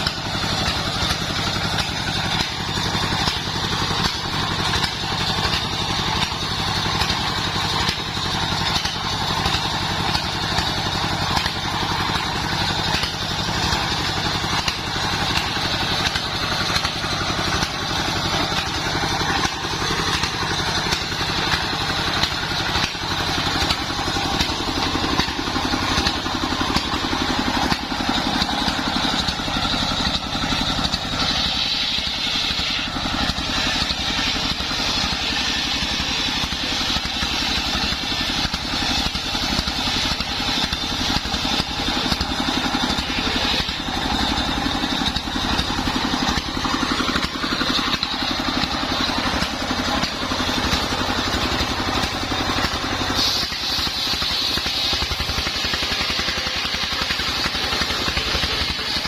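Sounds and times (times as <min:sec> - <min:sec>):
circular saw engine running: 0:00.0 - 0:59.0.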